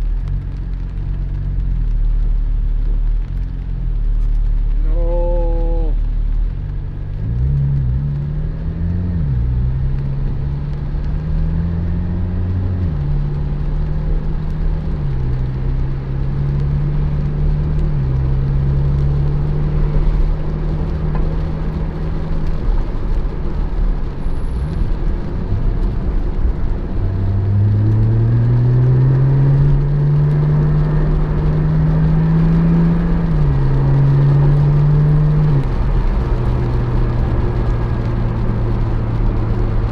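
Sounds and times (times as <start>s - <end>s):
car engine accelerating: 0.0s - 39.9s
road noise rumble: 0.0s - 39.9s.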